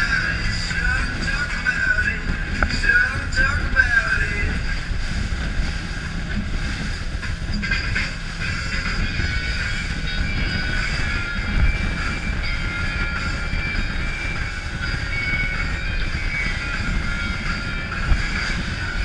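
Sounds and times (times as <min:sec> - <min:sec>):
boat engine drone: 0:00.0 - 0:19.0
rushing water: 0:00.0 - 0:19.0
wind: 0:00.0 - 0:19.0.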